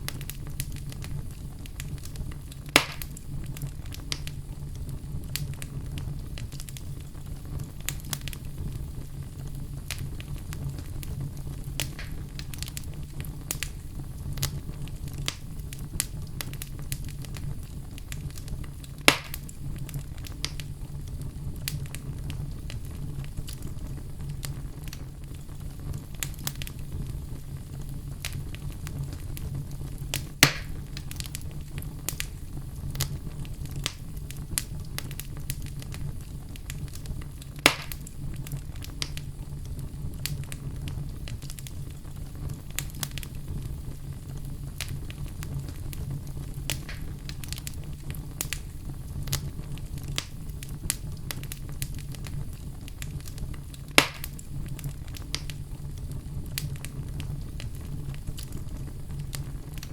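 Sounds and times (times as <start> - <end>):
sharp pops of fire: 0.0 - 59.9
wood fire crackling: 0.0 - 59.9.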